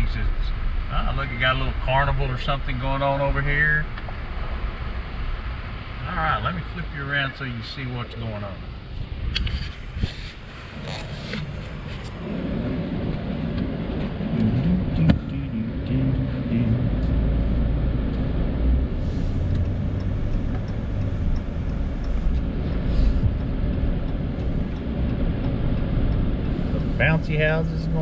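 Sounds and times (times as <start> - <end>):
truck engine and tyre rumble: 0.0 - 28.0.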